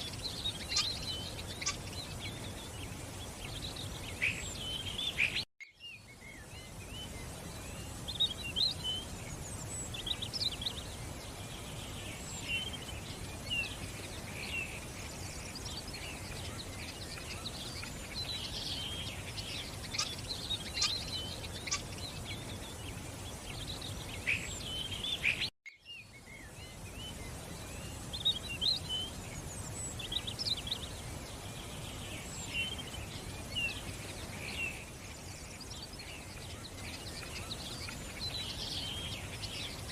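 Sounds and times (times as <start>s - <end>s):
outdoor hiss: 0.0s - 39.9s
small birds chirping: 0.0s - 39.9s.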